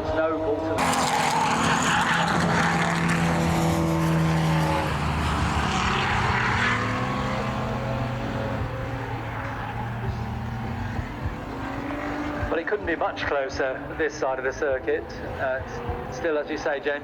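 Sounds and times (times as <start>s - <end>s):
racing car engines at full throttle: 0.0s - 17.0s.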